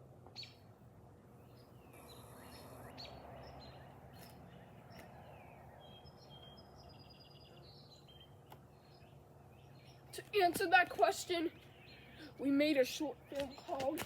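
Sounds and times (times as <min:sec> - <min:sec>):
faint background noise: 0:00.0 - 0:14.0
small birds chirping: 0:00.2 - 0:14.0.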